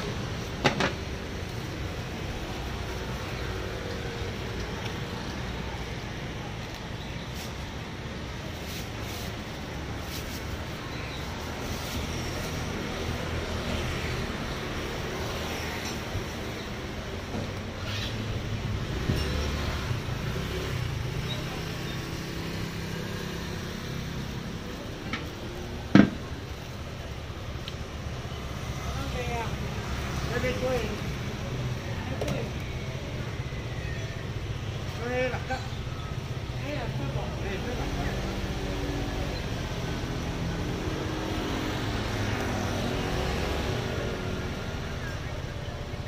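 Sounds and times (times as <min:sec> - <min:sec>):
low rumble of street traffic: 0:00.0 - 0:46.0.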